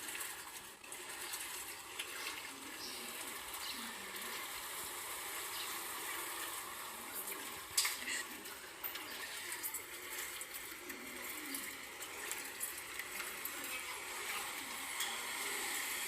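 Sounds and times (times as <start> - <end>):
washing machine running with water: 0.0 - 16.0.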